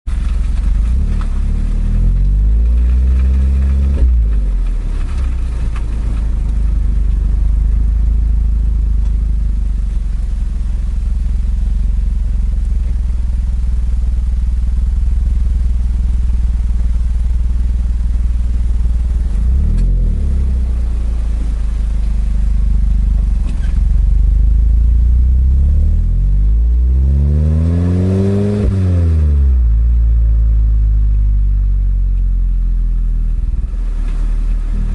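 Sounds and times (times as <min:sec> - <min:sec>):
car exhaust accelerating and cruising: 0:00.0 - 0:34.9.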